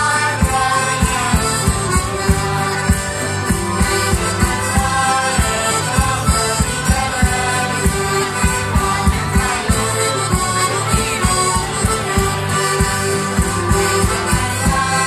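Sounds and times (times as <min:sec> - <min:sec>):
accordion: 0:00.0 - 0:15.0
live folk band playing: 0:00.0 - 0:15.0.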